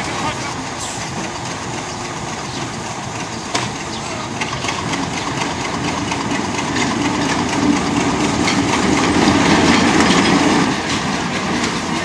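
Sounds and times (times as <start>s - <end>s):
diesel locomotive running: 0.0s - 12.0s.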